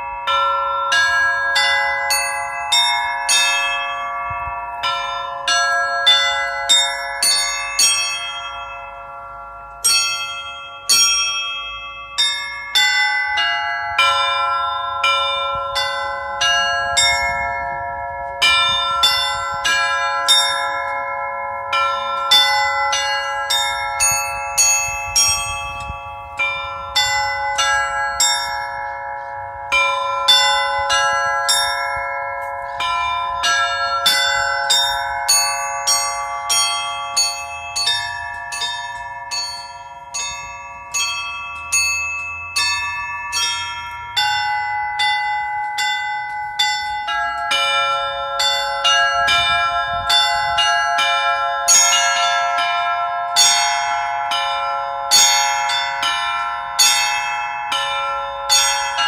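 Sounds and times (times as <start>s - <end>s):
small church bells ringing melody: 0.0s - 59.0s.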